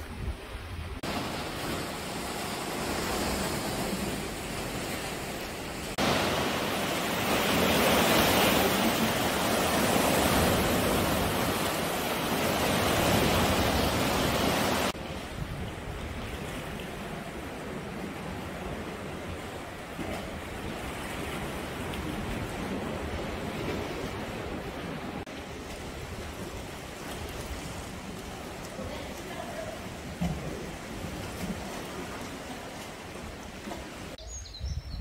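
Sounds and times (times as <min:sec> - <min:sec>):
sea noise: 0:00.0 - 0:34.6
wind: 0:00.0 - 0:35.0
surf rushing into rock gorge: 0:00.9 - 0:34.2.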